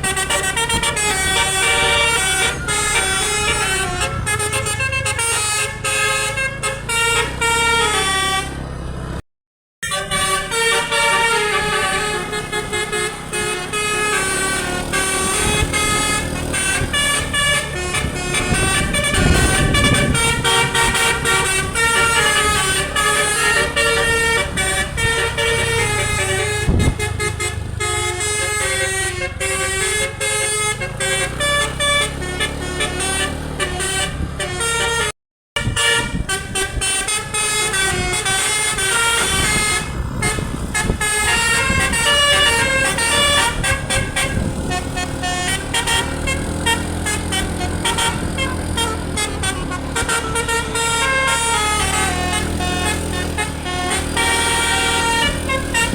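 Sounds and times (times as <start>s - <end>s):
musical air horn melody: 0.0s - 8.6s, 9.8s - 55.9s
bus engine rumble: 0.0s - 9.2s, 9.8s - 55.9s.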